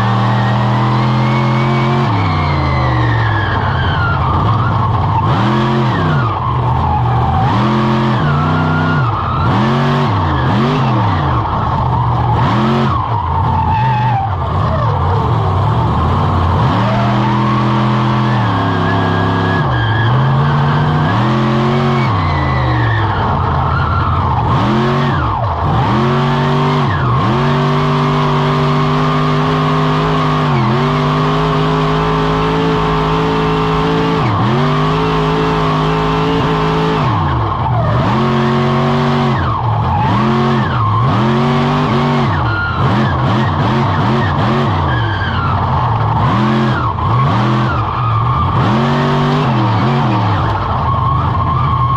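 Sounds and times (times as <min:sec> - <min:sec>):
monster truck engine revving: 0:00.0 - 0:51.9.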